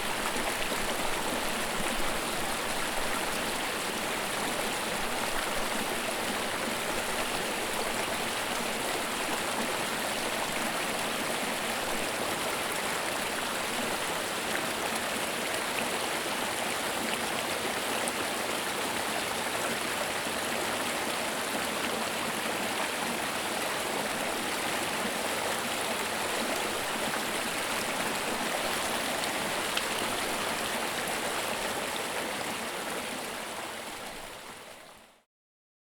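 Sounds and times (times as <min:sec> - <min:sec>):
creek water babbling over rocks: 0:00.0 - 0:35.1.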